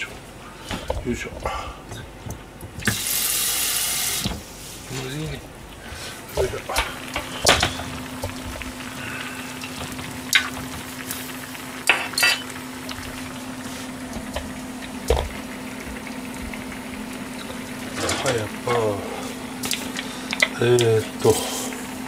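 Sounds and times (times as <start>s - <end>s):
saucepan cooking hiss: 0.0s - 22.0s
steady low hum: 0.0s - 22.0s.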